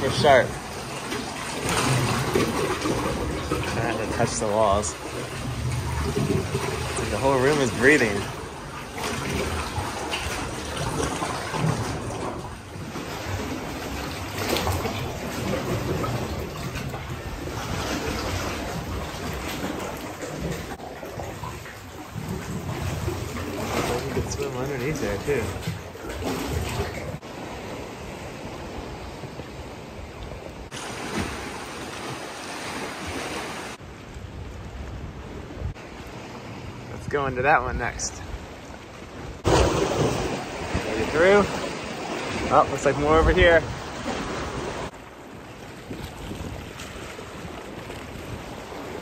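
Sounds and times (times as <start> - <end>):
sea water sloshing in a cave: 0.0 - 49.0.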